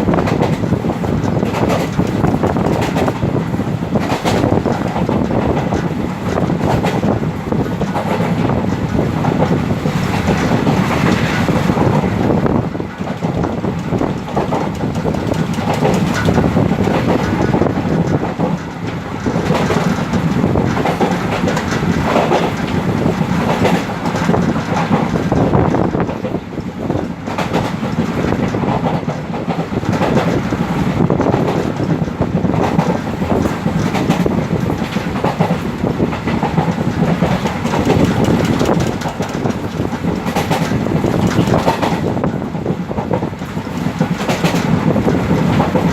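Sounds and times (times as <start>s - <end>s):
train wheels rumbling on rails: 0.0s - 45.9s
wheels clacking over rail joints: 0.0s - 45.9s.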